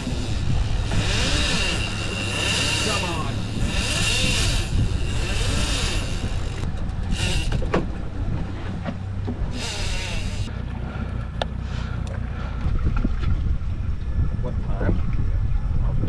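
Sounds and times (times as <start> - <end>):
outboard motor running: 0.0 - 14.2.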